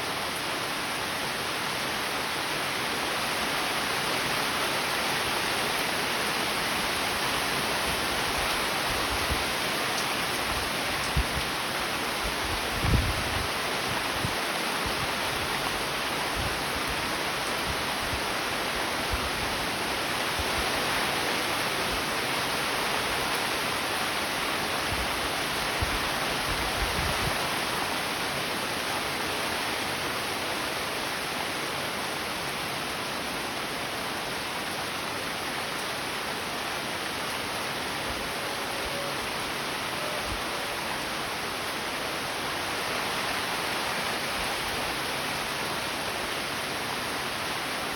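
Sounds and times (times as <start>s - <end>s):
steady rain: 0.0s - 47.9s.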